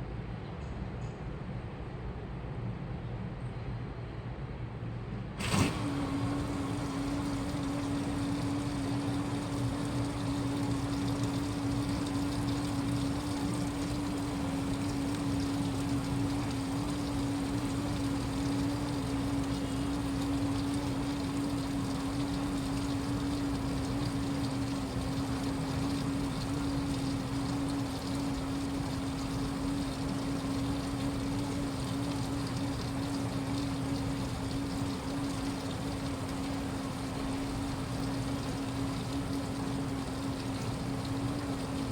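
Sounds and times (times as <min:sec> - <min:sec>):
washing machine running: 0:05.3 - 0:41.9.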